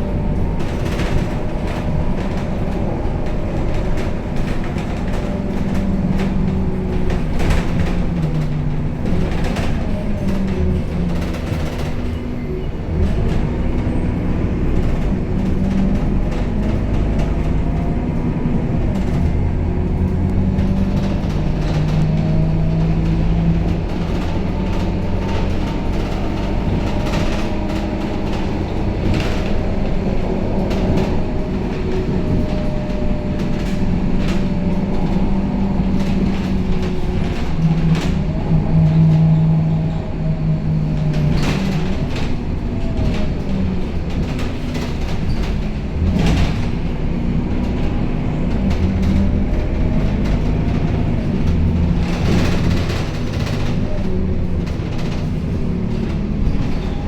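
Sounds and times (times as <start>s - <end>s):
bus diesel engine running: 0.0s - 57.0s
rattles and clicks in bus cabin: 0.0s - 57.0s.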